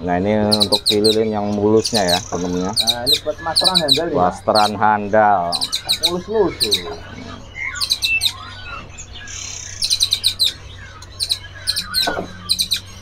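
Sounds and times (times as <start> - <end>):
songbirds chirping: 0.0 - 13.0
steady low hum: 0.0 - 13.0.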